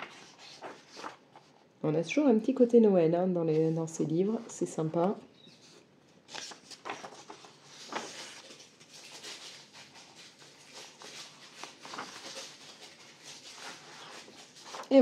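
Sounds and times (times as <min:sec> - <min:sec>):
paper pages rustling: 0:00.0 - 0:01.7, 0:03.5 - 0:15.0.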